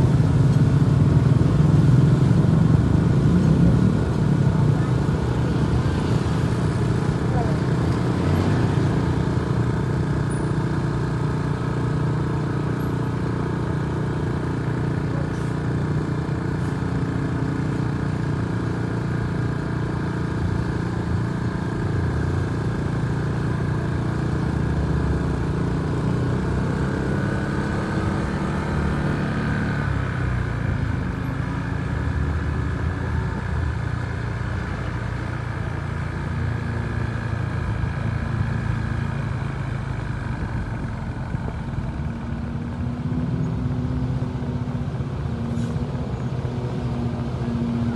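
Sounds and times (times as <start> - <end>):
bus engine running: 0.0 - 47.9.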